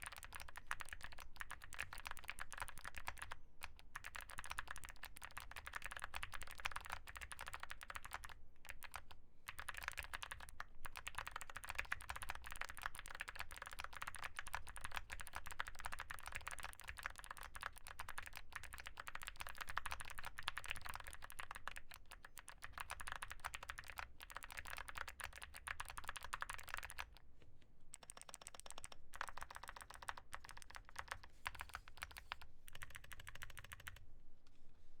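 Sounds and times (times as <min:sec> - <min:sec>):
fast mechanical keyboard typing: 0:00.0 - 0:27.2, 0:27.9 - 0:34.0.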